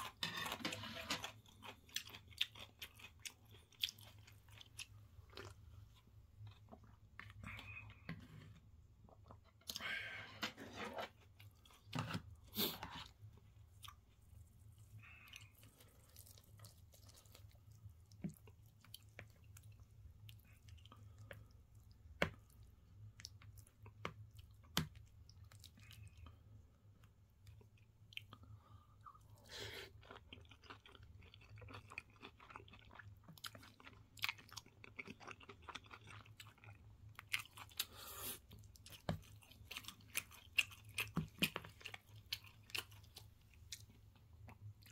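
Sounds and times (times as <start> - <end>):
chewing and crunching food: 0.0 - 10.1, 11.0 - 44.9.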